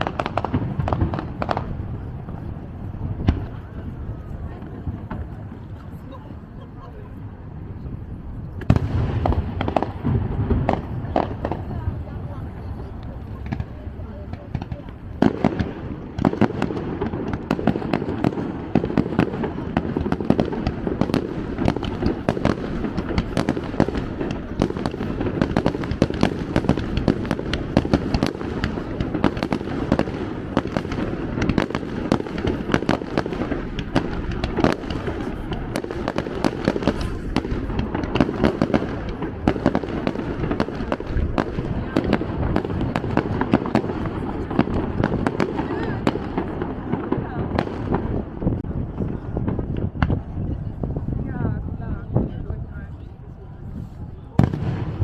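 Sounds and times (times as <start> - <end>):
fireworks banging and crackling: 0.0 - 55.0.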